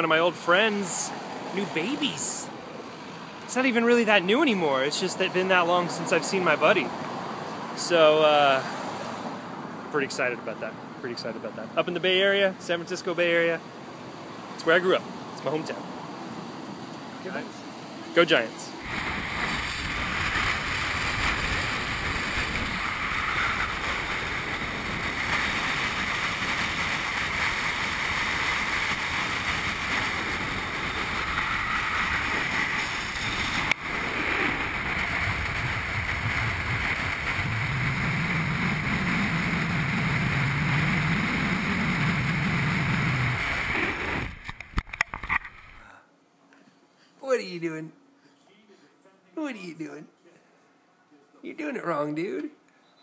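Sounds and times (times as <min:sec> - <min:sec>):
rushing wind and road noise: 0:00.0 - 0:45.8.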